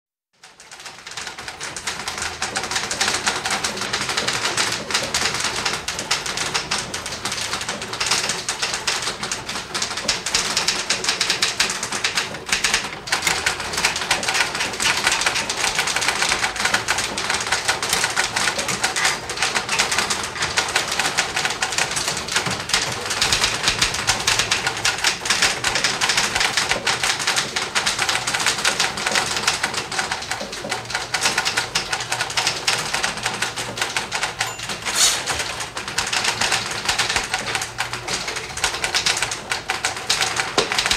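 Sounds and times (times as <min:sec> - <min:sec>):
typewriters clattering: 0:00.4 - 0:40.9.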